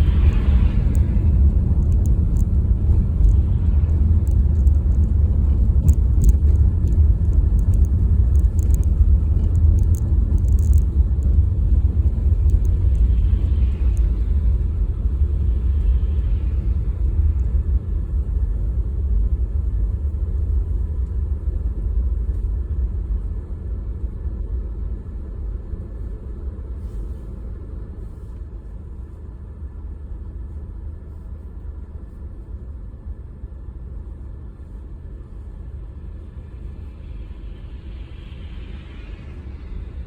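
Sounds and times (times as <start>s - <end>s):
car engine and tyres rumbling: 0.0s - 40.0s.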